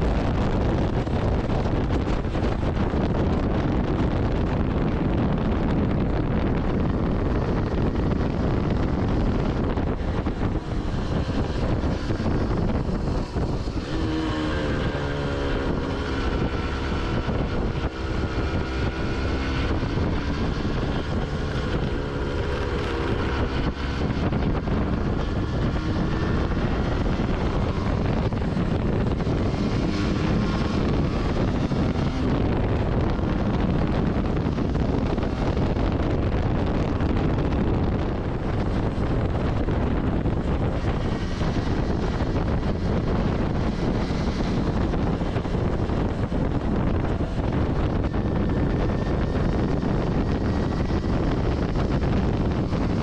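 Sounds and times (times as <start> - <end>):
motorcycle engine: 0.0 - 53.0
wind buffeting microphone: 0.0 - 53.0.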